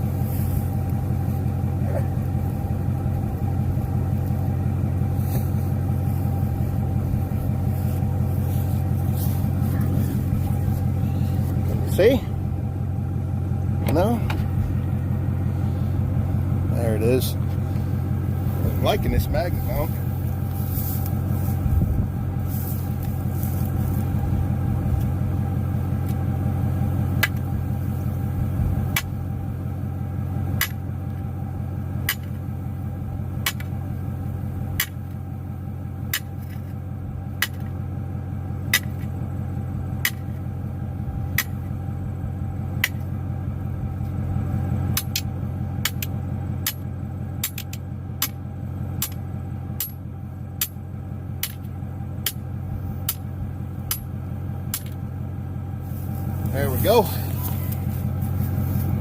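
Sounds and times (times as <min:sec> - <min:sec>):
vehicle engine running at low speed: 0:00.0 - 0:59.0.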